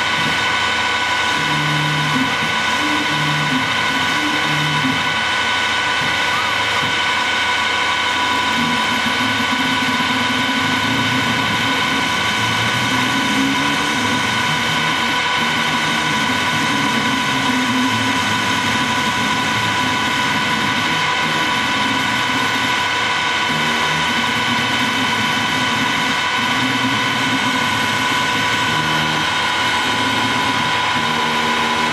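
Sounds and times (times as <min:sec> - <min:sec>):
lathe running with high whine: 0:00.0 - 0:31.9.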